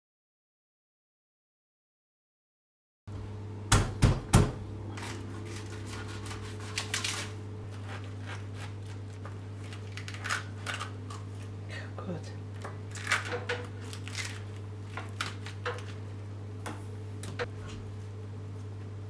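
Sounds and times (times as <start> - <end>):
steady low hum: 3.1 - 19.0.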